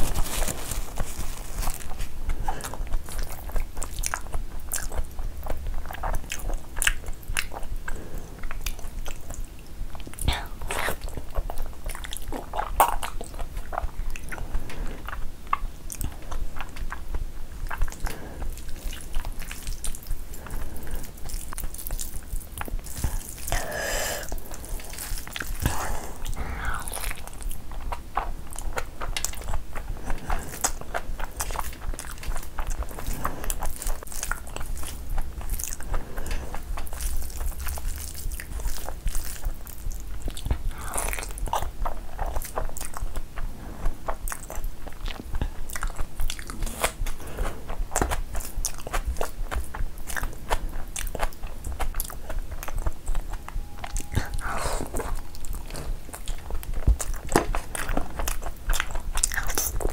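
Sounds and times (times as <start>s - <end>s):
wet chewing and lip-smacking: 0.0s - 59.9s.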